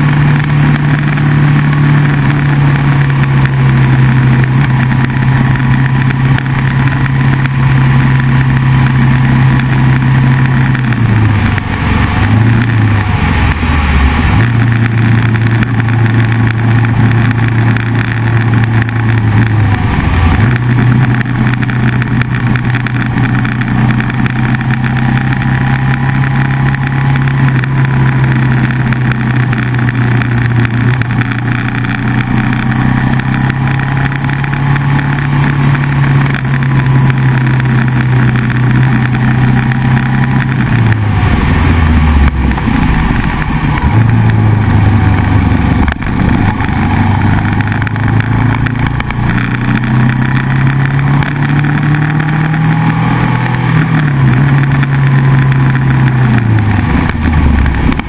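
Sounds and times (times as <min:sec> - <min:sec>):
motorcycle engine: 0:00.0 - 0:58.0
wind and road noise: 0:00.0 - 0:58.0.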